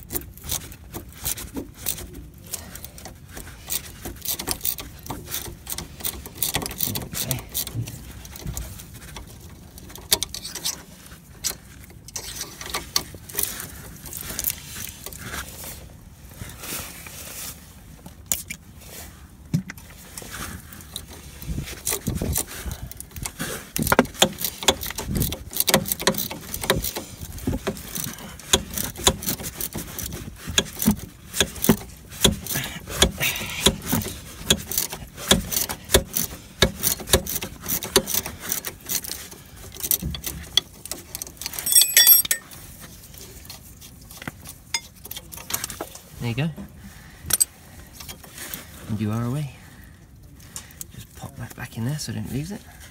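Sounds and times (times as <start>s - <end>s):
hand tools clicking and scraping metal: 0.0s - 15.5s, 19.7s - 46.2s, 47.2s - 48.8s.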